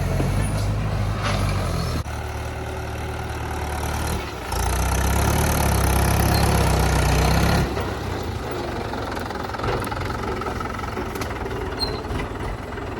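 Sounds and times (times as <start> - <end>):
diesel tractor engine running: 0.0 - 12.9.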